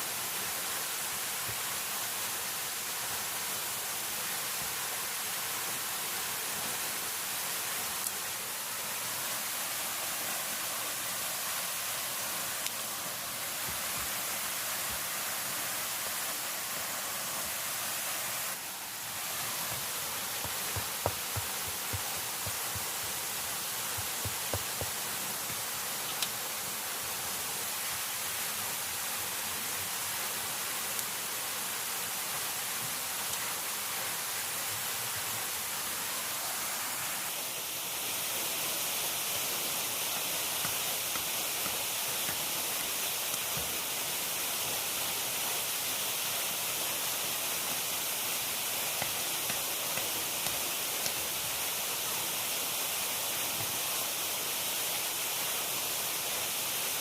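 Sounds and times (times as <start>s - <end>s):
rushing water hiss: 0.0s - 57.0s.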